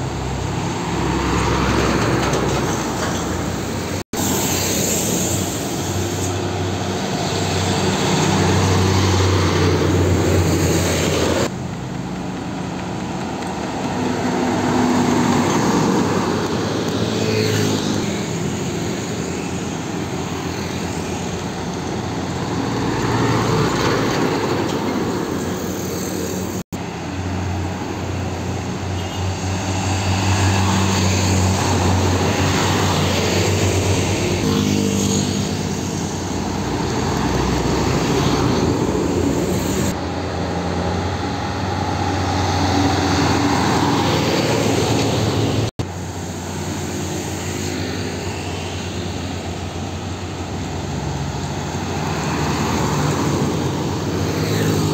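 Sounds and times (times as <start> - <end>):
diesel trucks passing: 0.0 - 54.9.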